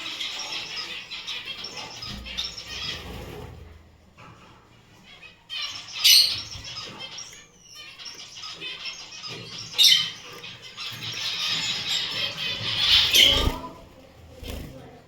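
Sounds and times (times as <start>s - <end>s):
finches chattering chirps: 0.0s - 3.4s, 4.9s - 14.0s.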